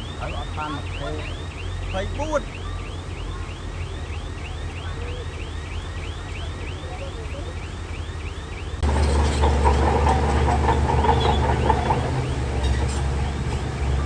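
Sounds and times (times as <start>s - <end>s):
warbling alarm chirps: 0.0s - 12.4s
heavy machinery diesel engine: 0.0s - 14.0s.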